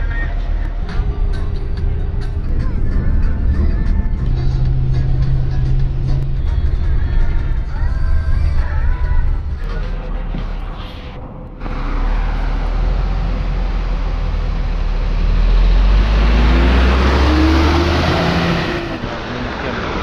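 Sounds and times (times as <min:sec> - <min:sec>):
bus engine revving: 0:00.0 - 0:20.0.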